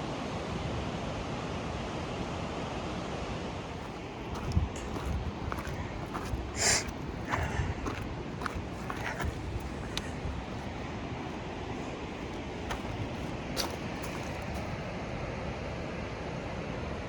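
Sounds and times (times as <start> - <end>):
steady rushing outdoor noise: 0.0 - 17.0.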